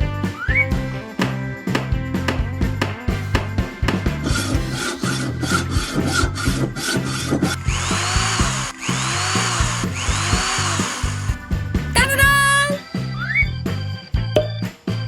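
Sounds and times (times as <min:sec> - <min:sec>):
background music: 0:00.0 - 0:07.3, 0:08.7 - 0:14.3.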